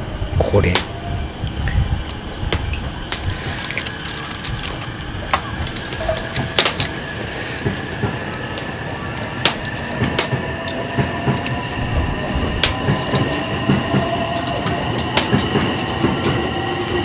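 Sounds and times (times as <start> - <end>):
wood fire crackling and popping: 0.6 - 17.0.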